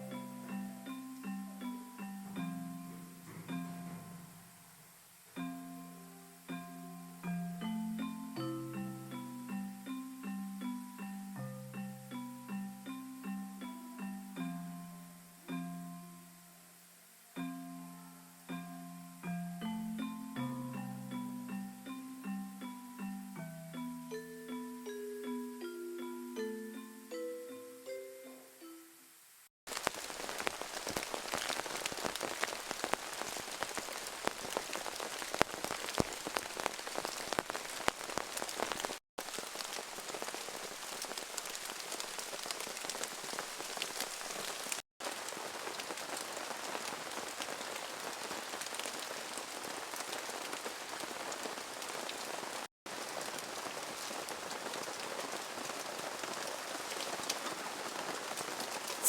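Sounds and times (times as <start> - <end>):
rain patter: 0.0 - 23.9, 29.3 - 59.0.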